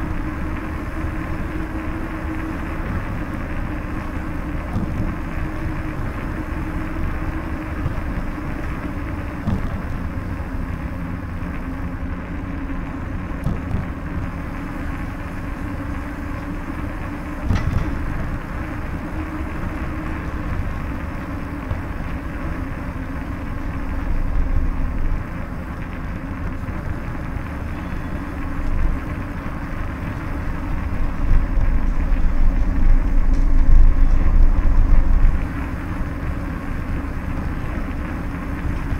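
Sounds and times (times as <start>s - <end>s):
tyres rolling over stone paving: 0.0s - 38.9s
wind buffeting microphone: 0.0s - 38.9s.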